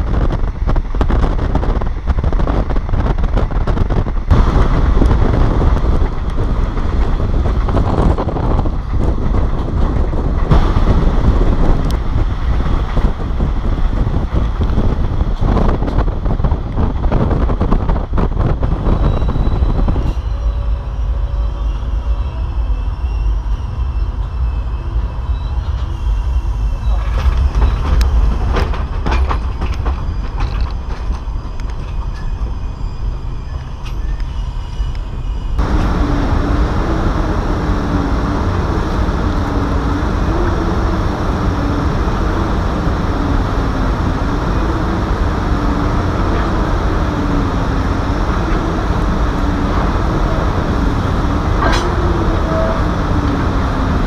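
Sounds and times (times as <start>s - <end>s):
electric locomotive hum: 0.0s - 54.0s
train wheels rumbling: 0.0s - 54.0s
wind buffeting microphone: 0.0s - 54.0s.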